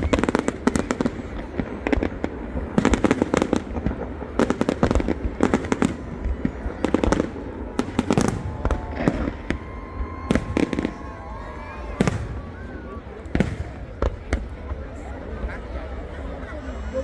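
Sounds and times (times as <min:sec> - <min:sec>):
fireworks bangs and crackles: 0:00.0 - 0:16.8.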